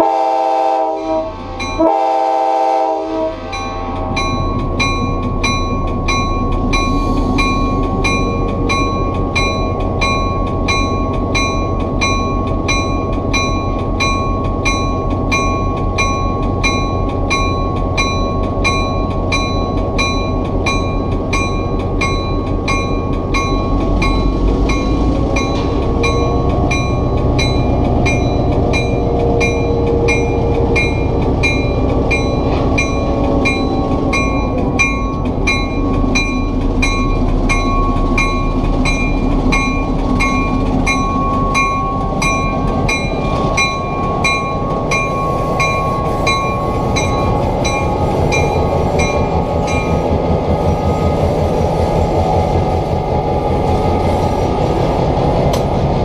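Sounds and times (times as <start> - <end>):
diesel locomotive engine rumbling: 0.0 - 56.0
locomotive bell ringing: 1.0 - 2.2, 3.1 - 53.3.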